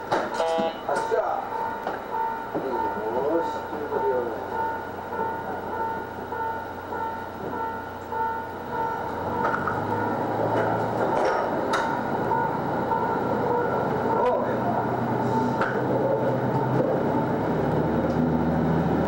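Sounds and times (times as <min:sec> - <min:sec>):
diesel railcar engine: 0:00.0 - 0:19.0.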